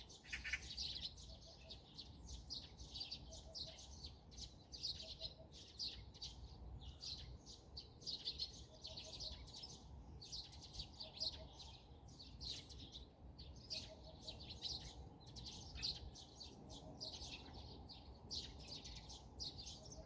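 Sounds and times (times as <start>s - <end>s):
birds chirping and twittering: 0.0s - 20.0s.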